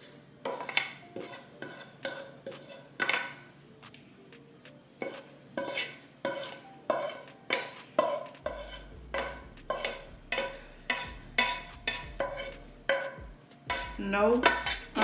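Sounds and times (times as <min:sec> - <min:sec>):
spatula scraping frying pan: 0:00.0 - 0:03.6, 0:05.0 - 0:15.0.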